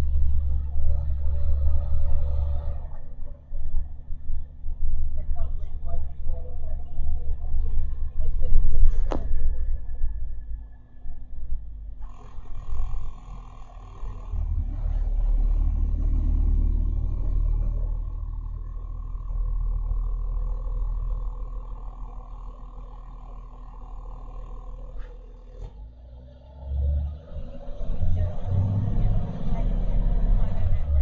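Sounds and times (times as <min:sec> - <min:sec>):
bus engine rumble with whine: 0:00.0 - 0:31.0.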